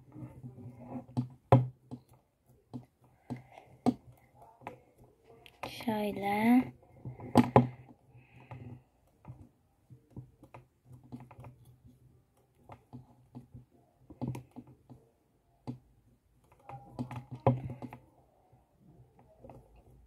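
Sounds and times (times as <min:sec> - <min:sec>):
hands braiding doll hair: 0:00.0 - 0:20.0.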